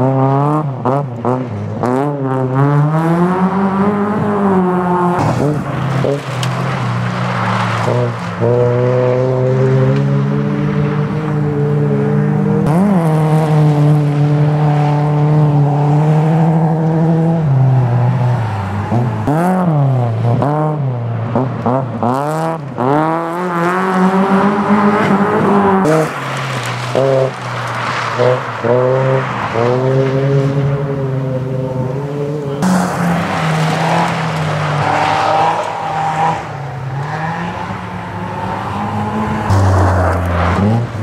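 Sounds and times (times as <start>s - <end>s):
racing car engines: 0.0s - 41.0s.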